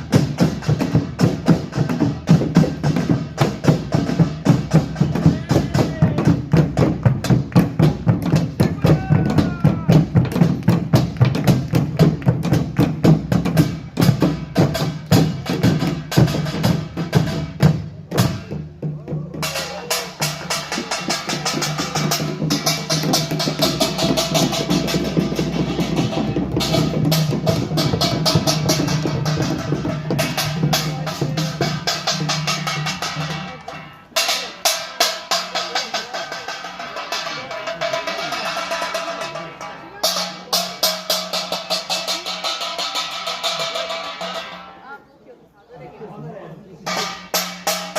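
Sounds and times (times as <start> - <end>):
percussion ensemble of drums and gongs: 0.0 - 45.0, 46.8 - 47.9.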